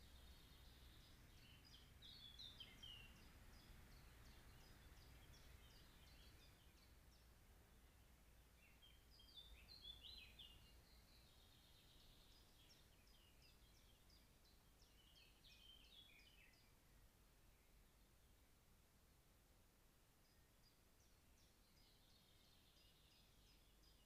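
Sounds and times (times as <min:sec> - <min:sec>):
faint low hum: 0:00.0 - 0:24.0
faint songbird singing: 0:00.0 - 0:24.0.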